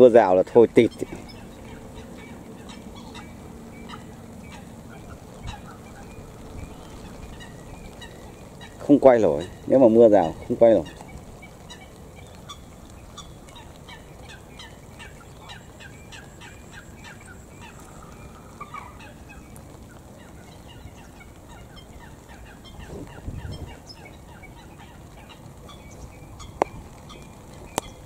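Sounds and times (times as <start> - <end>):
low rustle: 0.0 - 28.0
rain hissing: 0.0 - 28.0
bird calling falling notes: 0.7 - 28.0.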